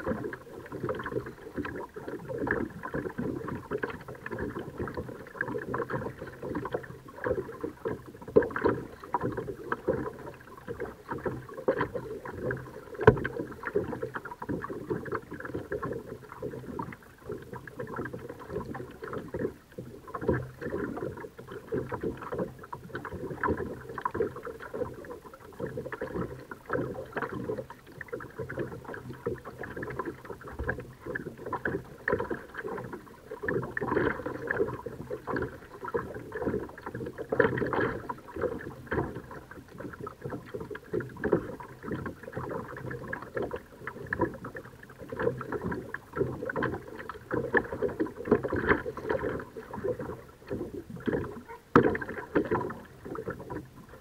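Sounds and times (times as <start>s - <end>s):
paddle strokes in water: 0.0s - 54.0s
water splashing around kayak: 0.0s - 54.0s.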